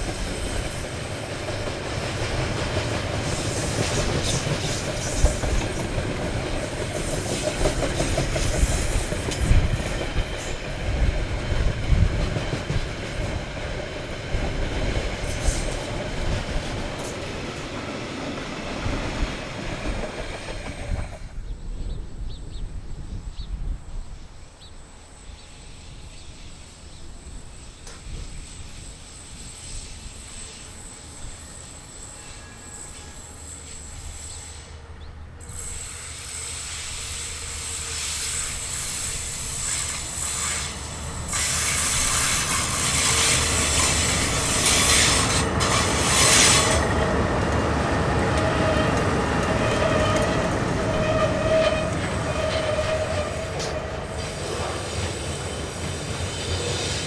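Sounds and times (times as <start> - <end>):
train passing: 0.0 - 57.0
wheels squealing against rails: 0.0 - 57.0.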